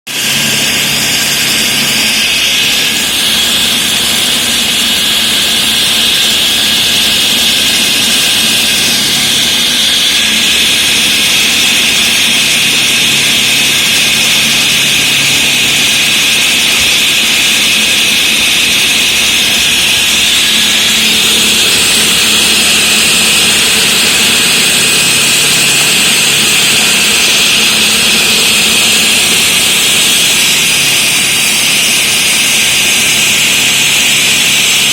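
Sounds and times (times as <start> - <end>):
machine running low: 0.1 - 34.9
saw blade grinding concrete: 0.1 - 34.9.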